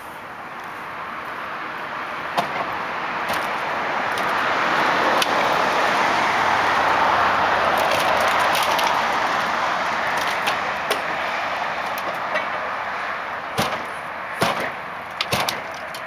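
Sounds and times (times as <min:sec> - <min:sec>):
vehicle tyre and road noise: 0:00.0 - 0:16.0.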